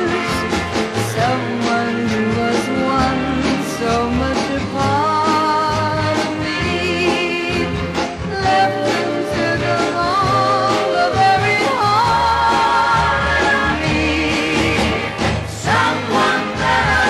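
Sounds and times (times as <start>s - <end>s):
woman singing: 0.0s - 15.0s
pop band backing with beat: 0.0s - 17.0s.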